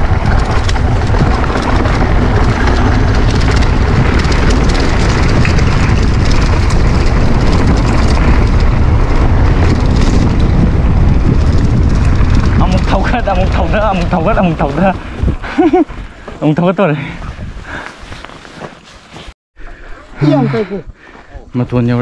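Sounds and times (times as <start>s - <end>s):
wind buffeting microphone: 0.0s - 18.7s
bike tyres rolling on dirt: 0.0s - 19.3s.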